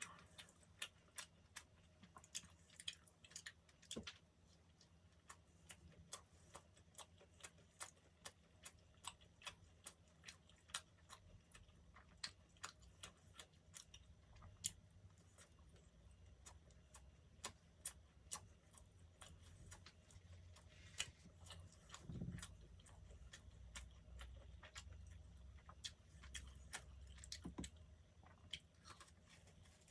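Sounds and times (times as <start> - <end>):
mouth clicks of chewing: 0.0 - 4.2, 4.8 - 29.9.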